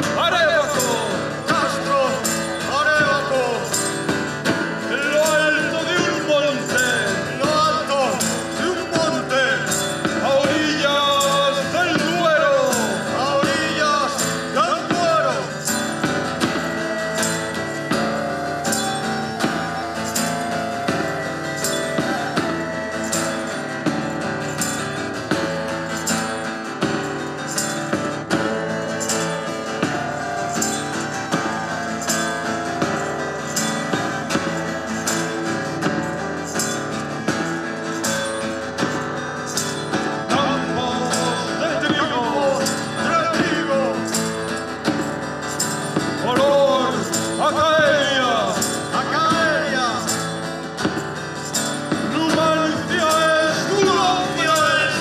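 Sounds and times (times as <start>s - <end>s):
person singing: 0.0s - 26.3s, 27.0s - 45.0s, 45.6s - 51.0s, 51.6s - 55.0s
guitar: 0.0s - 55.0s.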